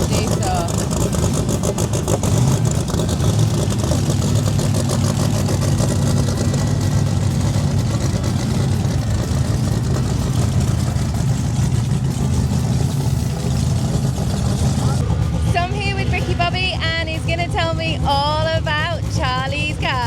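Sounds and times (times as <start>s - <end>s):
racing car engine idling: 0.0s - 20.0s.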